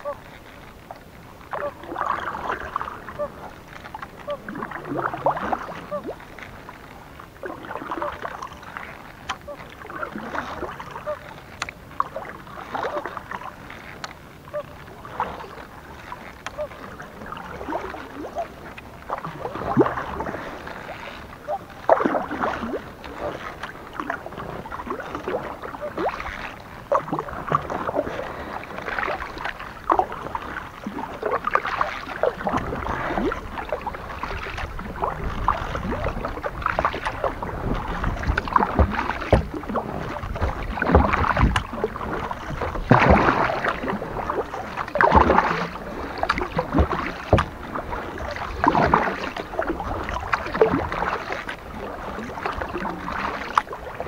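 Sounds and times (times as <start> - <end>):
kayak paddle splashing in water: 0.0 - 54.0.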